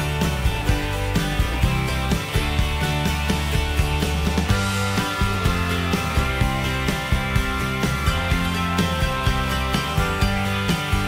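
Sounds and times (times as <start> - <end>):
background music with guitar: 0.0 - 11.0.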